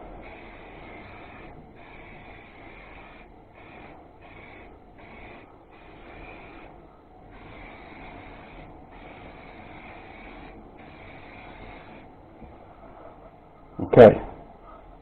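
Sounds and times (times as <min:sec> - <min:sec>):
aerosol spray can hissing: 0:00.0 - 0:14.8.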